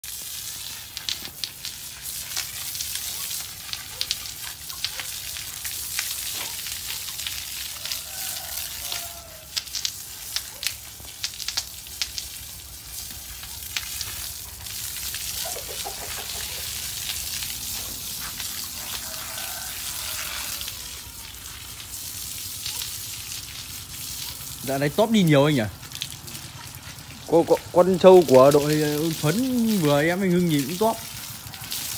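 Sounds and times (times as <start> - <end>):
hose spray hissing: 0.0 - 25.9, 26.8 - 31.1
water patters and drips: 0.0 - 31.9.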